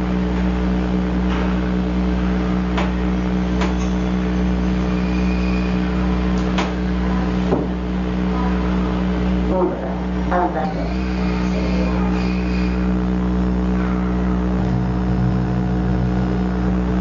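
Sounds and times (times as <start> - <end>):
low hum of fixed tones: 0.0 - 17.0.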